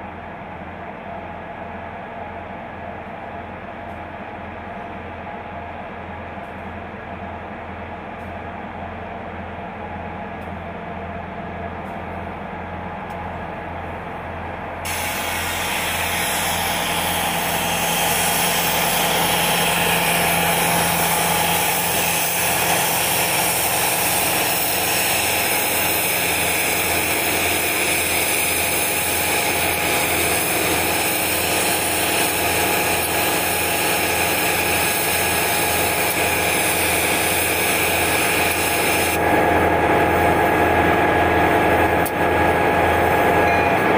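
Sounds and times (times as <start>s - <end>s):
diesel locomotives rumbling: 0.0s - 43.9s.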